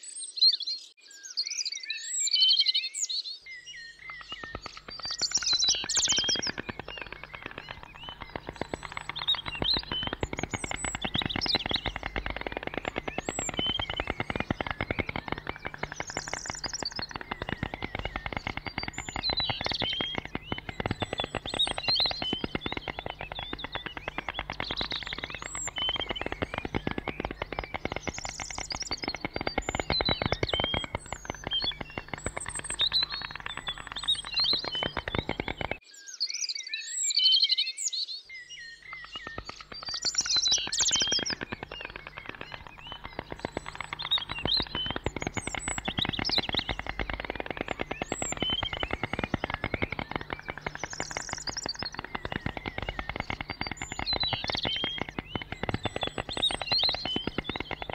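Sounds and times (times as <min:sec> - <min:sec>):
songbirds chirping: 0:00.0 - 0:57.9
storks clattering bills: 0:04.0 - 0:35.8, 0:38.8 - 0:57.9.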